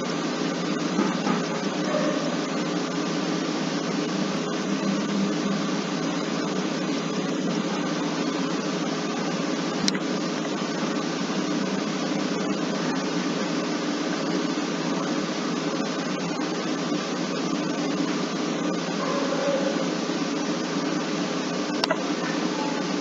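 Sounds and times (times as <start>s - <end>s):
steady hiss and hum: 0.0s - 23.0s.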